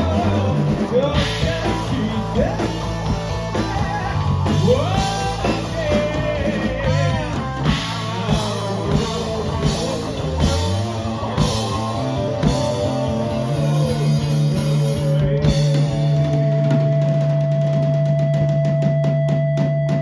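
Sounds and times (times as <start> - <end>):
person singing: 0.0 - 17.0
live rock band playing: 0.0 - 20.0.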